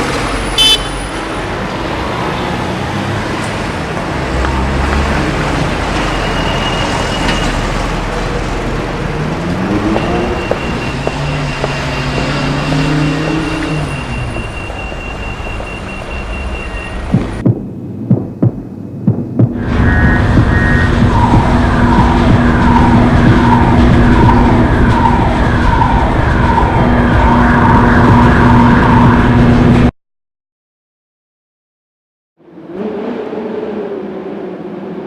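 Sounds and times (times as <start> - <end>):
dense road traffic: 0.0 - 29.9, 32.4 - 35.0.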